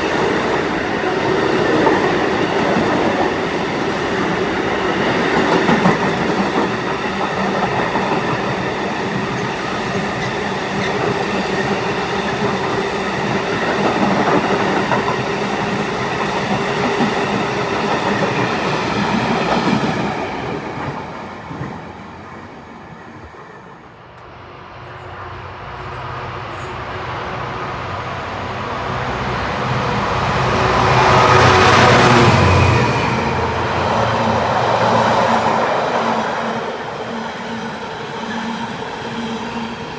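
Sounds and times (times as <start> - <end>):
train approaching with low drone: 0.0 - 39.9
train passing: 0.0 - 39.9.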